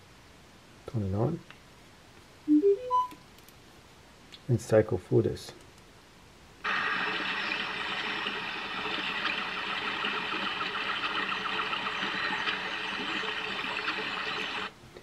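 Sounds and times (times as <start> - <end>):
steady hiss from small speaker: 0.0 - 15.0.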